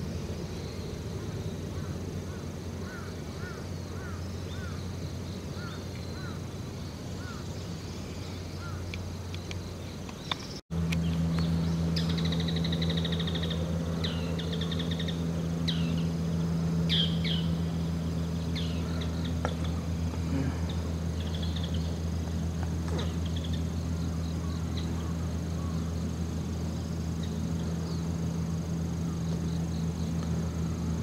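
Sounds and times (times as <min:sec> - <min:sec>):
low mechanical hum: 0:00.0 - 0:31.0
small birds chirping and trilling: 0:00.0 - 0:31.0.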